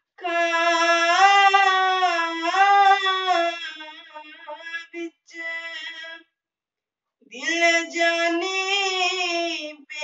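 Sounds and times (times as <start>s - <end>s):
boy singing unaccompanied: 0.2s - 6.2s, 7.3s - 10.0s.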